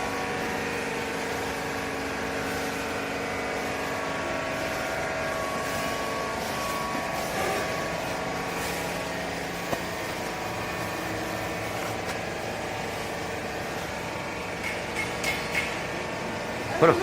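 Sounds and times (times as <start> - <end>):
baler mechanical hum: 0.0 - 17.0.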